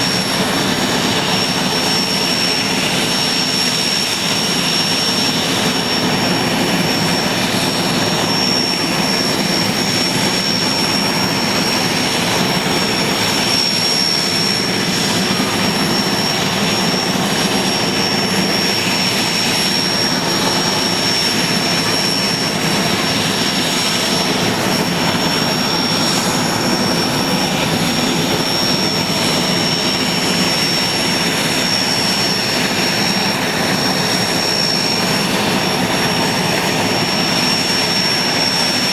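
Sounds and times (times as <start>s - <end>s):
helicopter engines and rotor: 0.0s - 38.9s.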